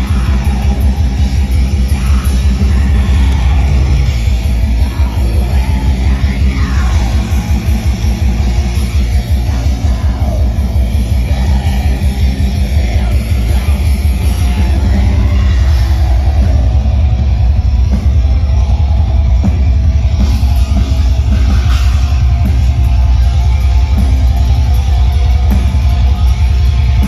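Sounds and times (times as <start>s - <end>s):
distorted electric guitars: 0.0s - 27.0s
fast dense drumming: 0.0s - 27.0s.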